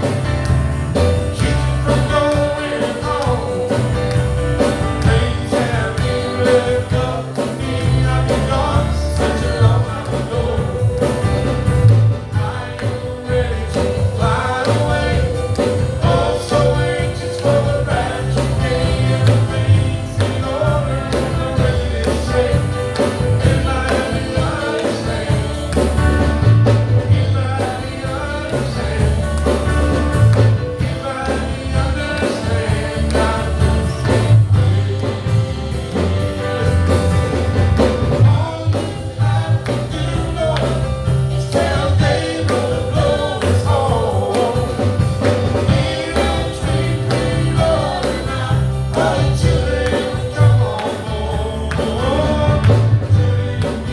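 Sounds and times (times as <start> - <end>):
gospel singing: 0.0 - 53.9
instrumental accompaniment: 0.0 - 53.9.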